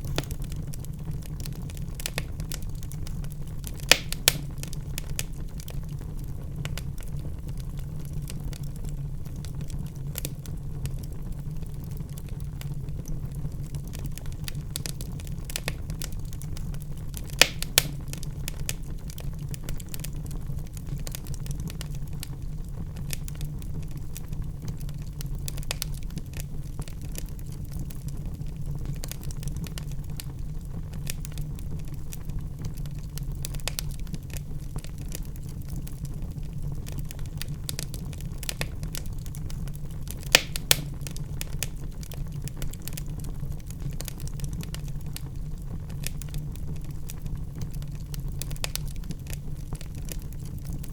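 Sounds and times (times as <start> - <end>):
fire crackles and pops: 0.0 - 50.9
fire flames rumbling: 0.0 - 50.9.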